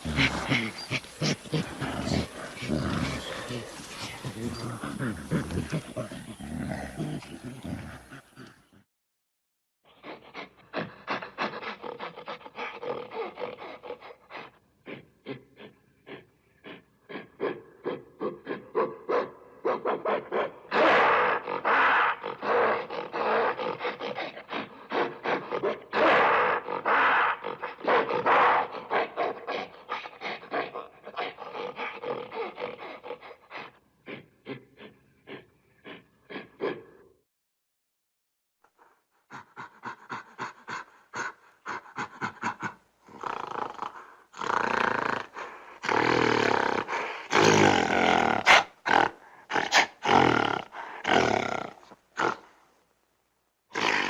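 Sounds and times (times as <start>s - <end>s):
gorilla panting grunts and roars: 0.0s - 8.9s, 9.9s - 37.2s, 38.6s - 52.6s.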